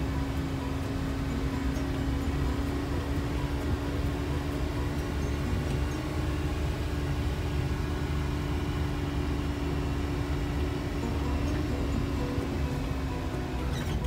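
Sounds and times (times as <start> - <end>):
car engine and road rumble: 0.0 - 14.0
constant low hum: 0.0 - 14.0.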